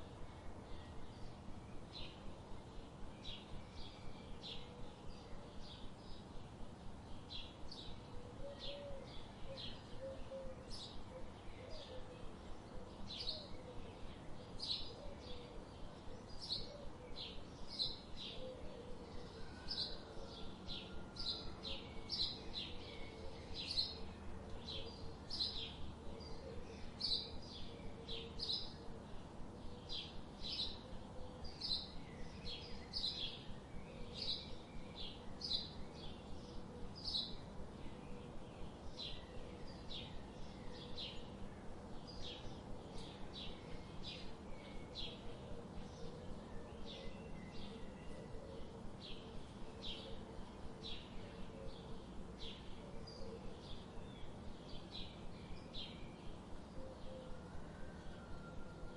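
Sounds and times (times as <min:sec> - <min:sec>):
small birds chirping: 0:00.0 - 0:57.5.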